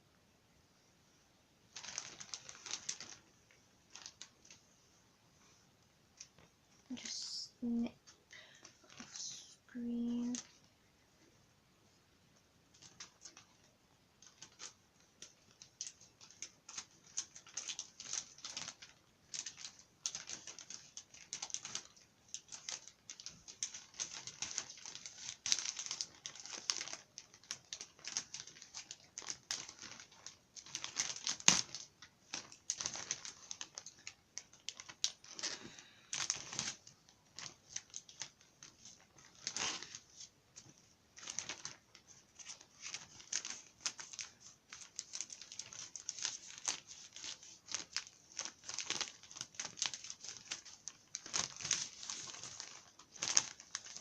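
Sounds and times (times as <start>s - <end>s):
packaging crinkling and rustling: 1.7s - 4.8s, 6.1s - 10.8s, 12.4s - 54.0s.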